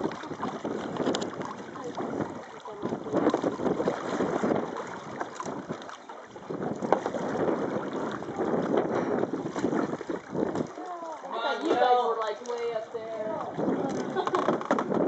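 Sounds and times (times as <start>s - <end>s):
water splashing around canoe: 0.0s - 15.0s
wind buffeting microphone: 0.0s - 15.0s.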